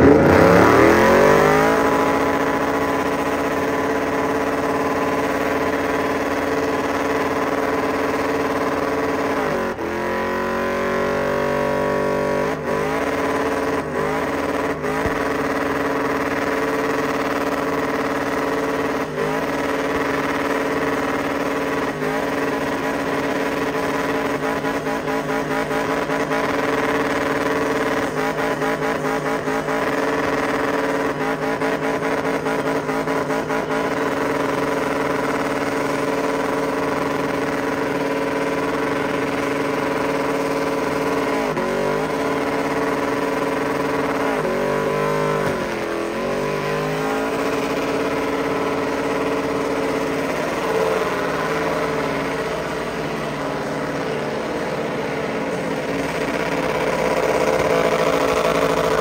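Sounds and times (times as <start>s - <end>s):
truck engine revving high: 0.0s - 59.0s.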